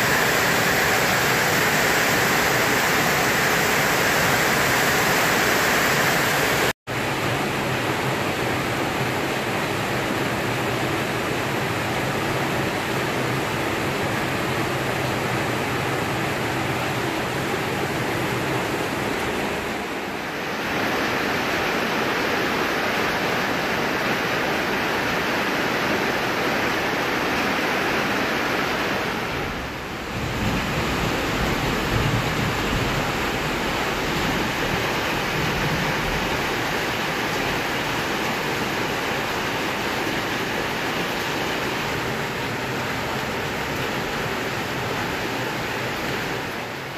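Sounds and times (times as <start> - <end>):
heavy rain on a metal roof: 0.0 - 46.9.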